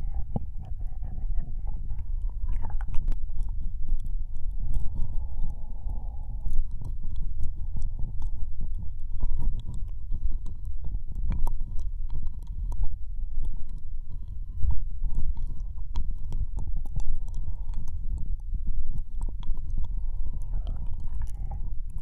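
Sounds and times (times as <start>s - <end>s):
low rumble: 0.0s - 22.0s
wet tongue and mouth clicks: 0.0s - 22.0s.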